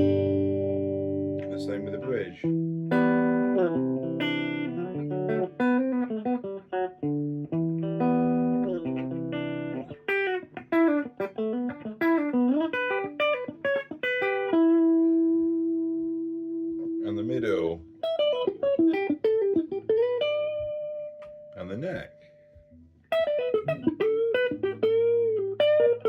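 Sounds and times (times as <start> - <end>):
clean electric guitar: 0.0 - 26.0.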